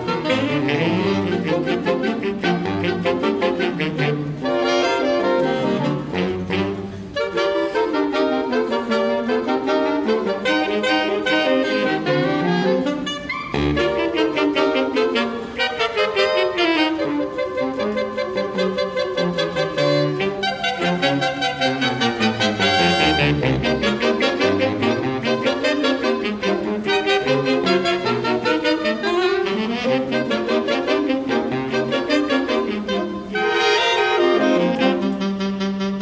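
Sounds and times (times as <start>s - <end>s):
jazz big band playing: 0.0s - 36.0s
saxophone section: 0.0s - 36.0s.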